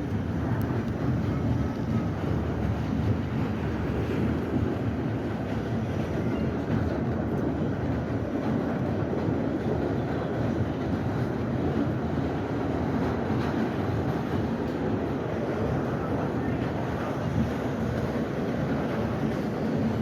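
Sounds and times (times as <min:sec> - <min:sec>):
subway train running on track: 0:00.0 - 0:20.0.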